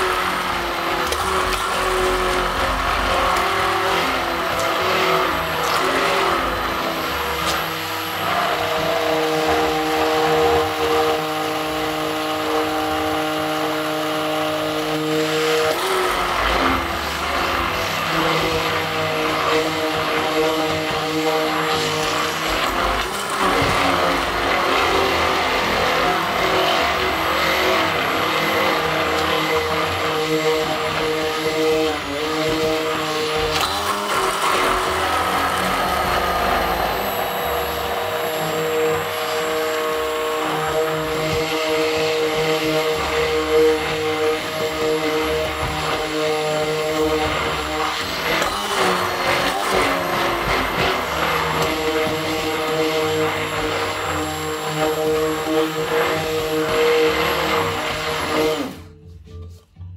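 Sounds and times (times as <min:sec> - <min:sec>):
immersion blender motor whine: 0:00.0 - 0:59.0.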